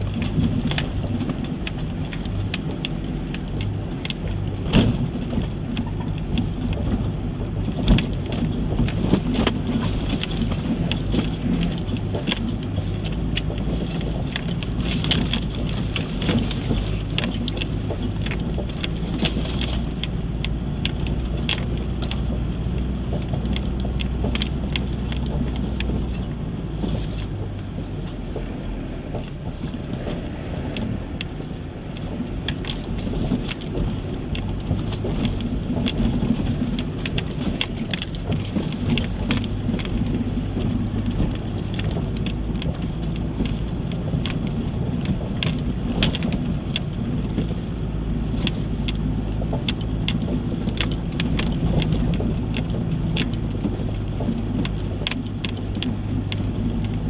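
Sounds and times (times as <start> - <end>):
off-road vehicle engine under load: 0.0 - 57.0
stones knocking and bodywork rattling: 0.0 - 57.0
tyres crunching over gravel: 0.0 - 57.0.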